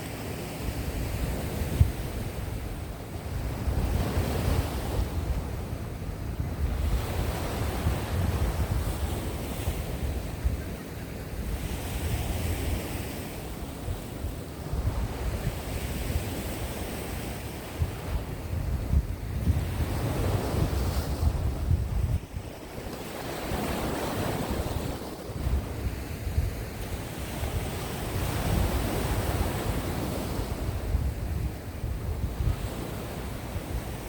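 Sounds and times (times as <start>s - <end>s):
sea waves washing onto shore: 0.0s - 34.0s
wind buffeting microphone: 0.7s - 34.0s.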